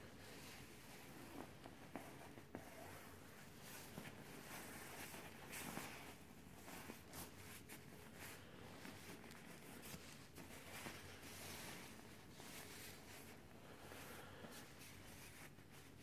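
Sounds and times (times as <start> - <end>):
nylon jackets rustling: 0.1 - 16.0.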